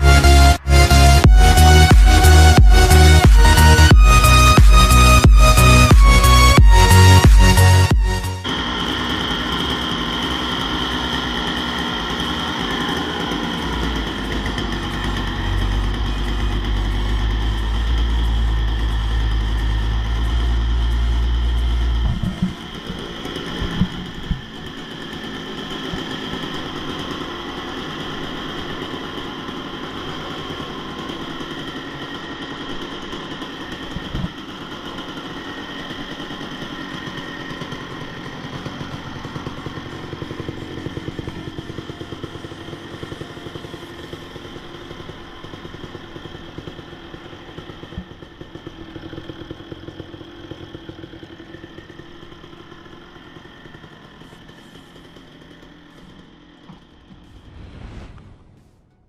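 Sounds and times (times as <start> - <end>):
two-stroke motorcycle engine running: 0.0 - 57.3.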